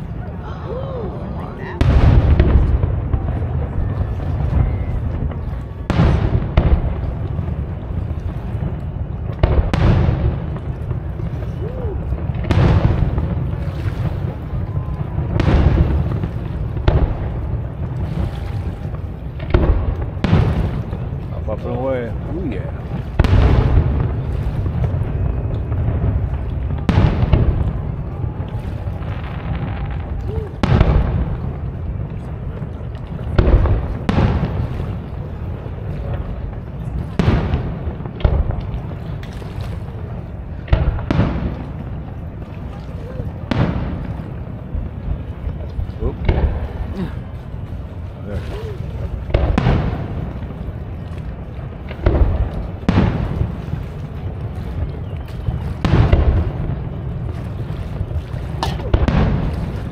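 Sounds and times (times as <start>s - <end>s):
fireworks shells booming: 1.5s - 59.9s.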